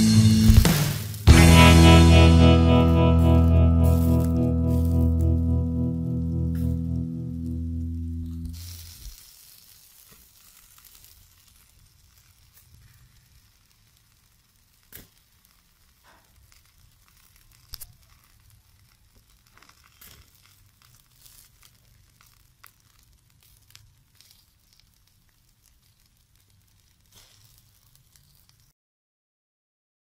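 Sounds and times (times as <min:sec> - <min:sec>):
chicken sizzling on charcoal grill: 0:00.0 - 0:28.8
charcoal crackles and pops: 0:00.3 - 0:28.8.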